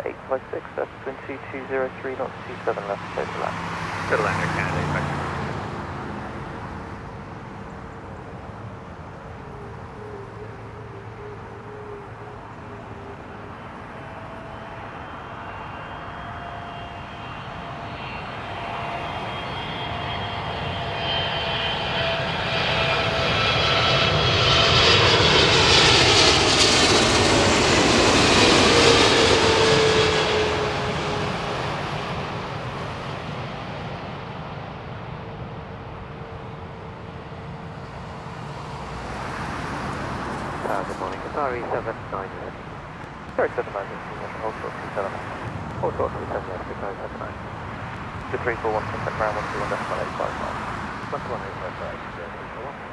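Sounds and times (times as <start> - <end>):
jet airliner passing: 0.0 - 52.9
jet engine whine: 0.0 - 52.9.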